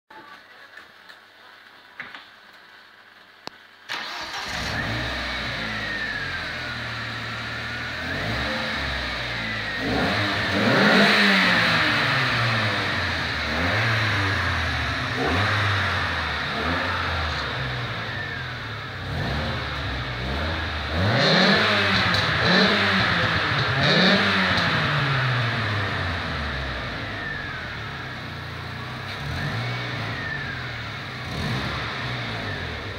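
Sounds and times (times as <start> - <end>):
car engine idling and revving: 3.9 - 32.9.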